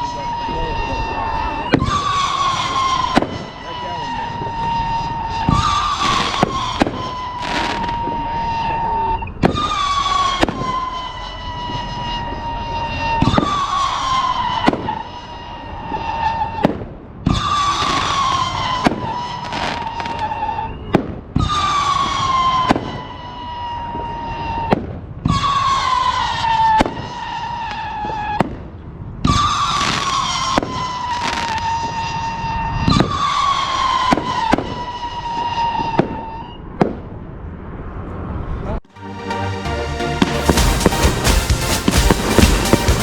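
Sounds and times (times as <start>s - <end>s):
firework whistle: 0.0s - 28.6s, 29.2s - 36.8s, 40.2s - 43.0s
firework bangs: 0.0s - 37.2s, 40.2s - 43.0s.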